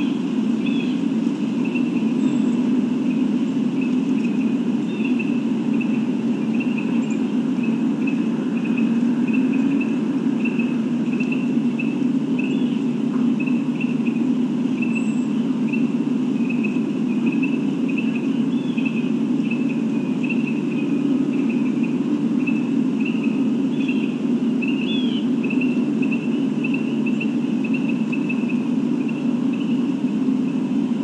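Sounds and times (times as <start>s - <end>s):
insect chirping: 0.0s - 30.9s
steady low rumble: 0.0s - 31.0s.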